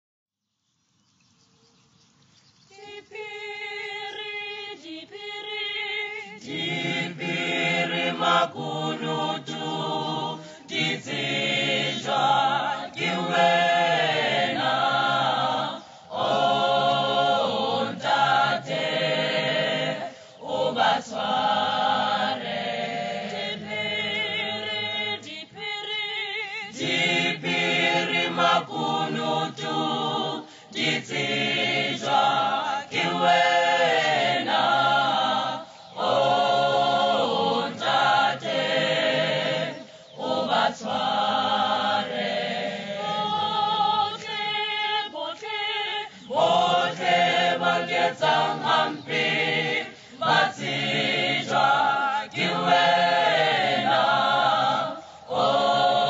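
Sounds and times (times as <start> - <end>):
choir singing a cappella: 2.7 - 56.0.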